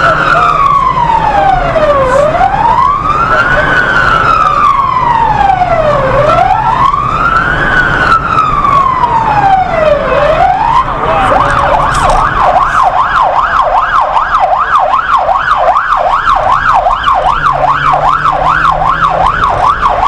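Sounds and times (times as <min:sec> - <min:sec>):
siren wailing: 0:00.0 - 0:20.0
vehicle engine and road noise: 0:00.0 - 0:20.0.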